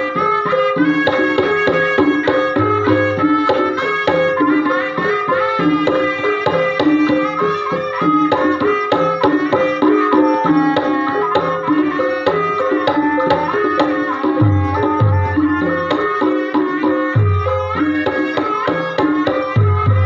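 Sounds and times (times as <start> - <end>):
hand drum strokes: 0.0 - 20.0
metallophone notes ringing: 0.0 - 20.0.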